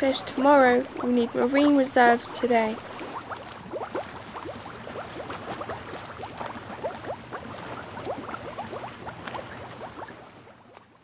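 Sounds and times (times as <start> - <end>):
underwater bubbles blipping: 0.0 - 11.0.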